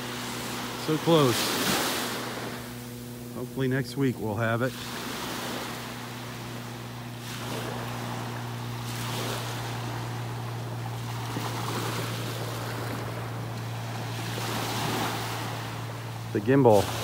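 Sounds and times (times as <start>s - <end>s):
small waves washing on sand: 0.0s - 17.0s
steady low hum: 0.0s - 17.0s.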